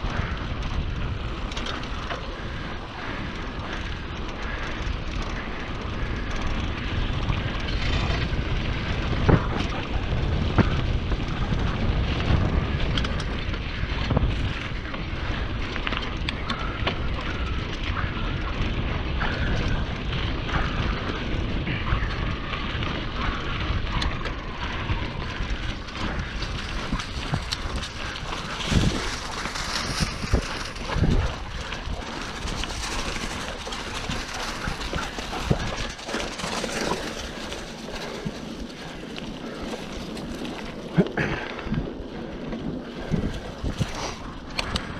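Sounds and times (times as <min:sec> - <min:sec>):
bike knocks and rattles: 0:00.0 - 0:44.9
tyre rumble: 0:00.0 - 0:44.9
wind buffeting microphone: 0:00.0 - 0:44.9.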